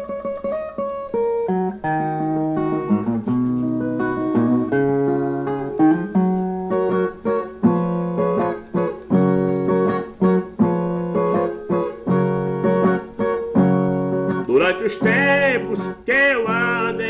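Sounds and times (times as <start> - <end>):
plucked and strummed guitar: 0.0 - 17.0.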